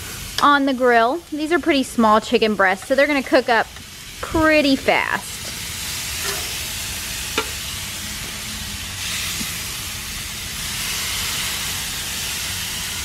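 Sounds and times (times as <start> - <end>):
chicken sizzling on grill: 0.0 - 13.0.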